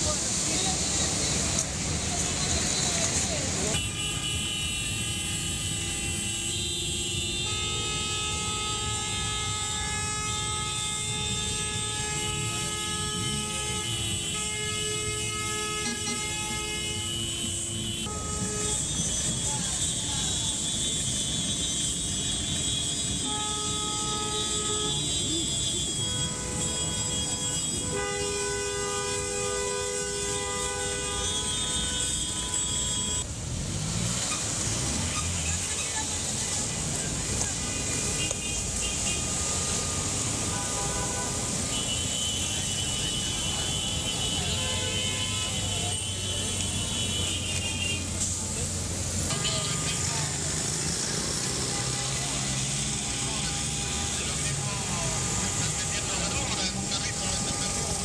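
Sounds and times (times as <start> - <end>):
car horns honking: 0.0 - 58.0
idling traffic rumble: 0.0 - 58.0.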